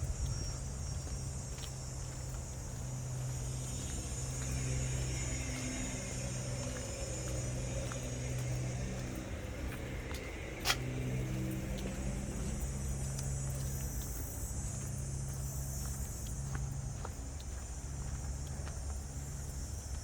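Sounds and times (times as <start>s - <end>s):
high-pitched hiss: 0.0s - 16.8s
road traffic hum: 0.0s - 20.0s.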